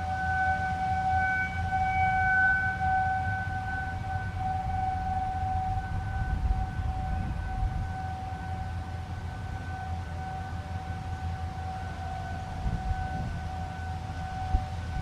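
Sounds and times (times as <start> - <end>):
siren steady tone: 0.0 - 15.0.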